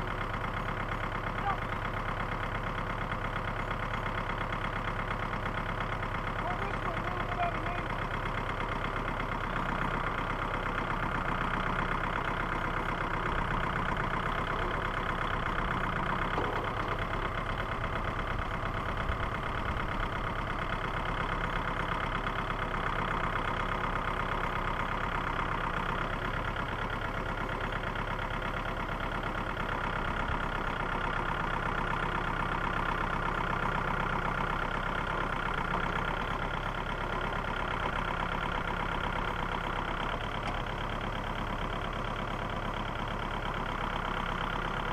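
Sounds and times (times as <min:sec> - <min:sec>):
small tractor engine running: 0:00.0 - 0:44.9.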